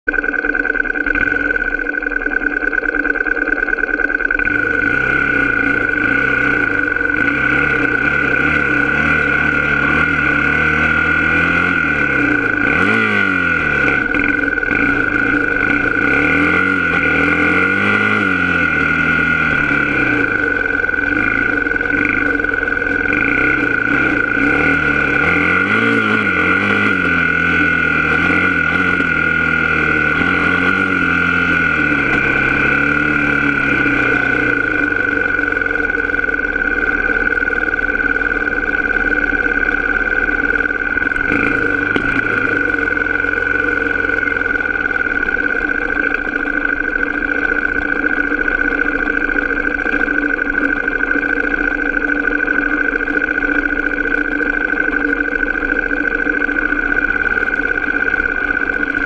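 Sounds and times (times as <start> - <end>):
high-pitched whine: 0.0 - 59.0
off-road vehicle engine revving: 0.2 - 59.0.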